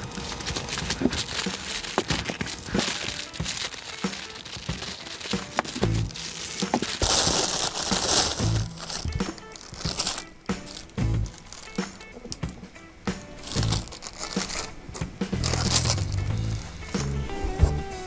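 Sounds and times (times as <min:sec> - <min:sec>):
plastic bag crinkling: 0:00.0 - 0:12.6, 0:13.2 - 0:17.2
plastic bag ripping: 0:00.0 - 0:12.6, 0:13.2 - 0:17.2
background music: 0:00.0 - 0:18.0.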